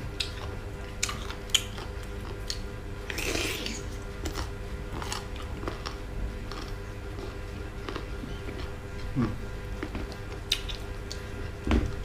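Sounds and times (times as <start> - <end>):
chewing crunchy mango: 0.0 - 11.6.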